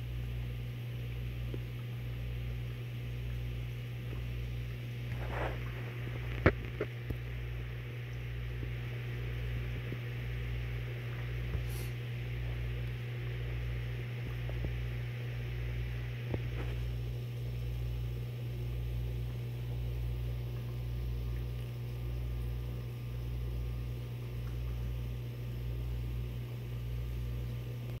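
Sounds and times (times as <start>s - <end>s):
aquarium equipment humming: 0.0s - 28.0s.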